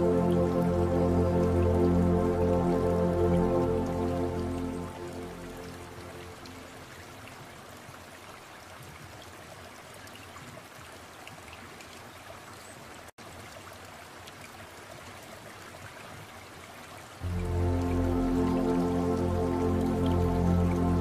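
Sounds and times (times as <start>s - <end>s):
running trickling water: 0.0s - 21.0s.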